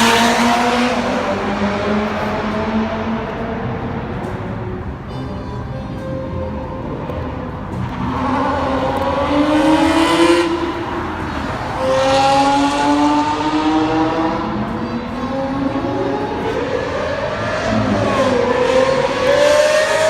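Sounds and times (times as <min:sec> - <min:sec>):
supercar engines accelerating hard: 0:00.0 - 0:05.1, 0:06.6 - 0:20.0.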